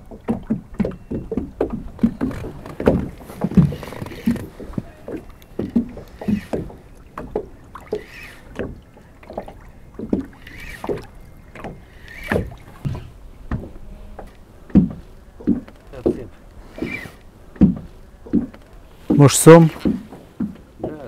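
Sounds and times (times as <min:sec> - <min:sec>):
water slapping against boat hull: 0:00.0 - 0:21.0.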